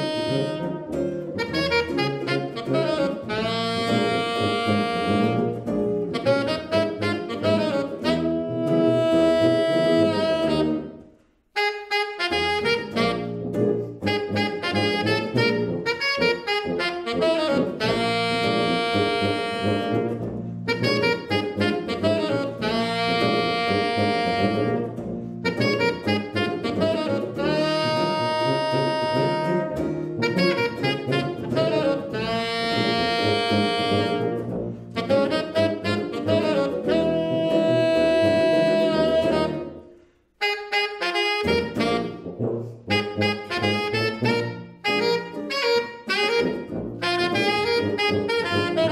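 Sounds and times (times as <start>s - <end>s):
tuba bass line: 0.0s - 11.0s, 11.6s - 48.9s
tenor saxophone long notes: 0.0s - 48.9s.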